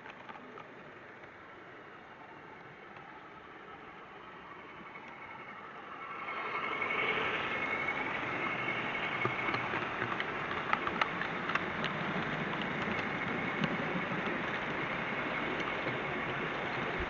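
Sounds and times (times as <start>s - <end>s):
model train rumbling: 1.0s - 17.0s.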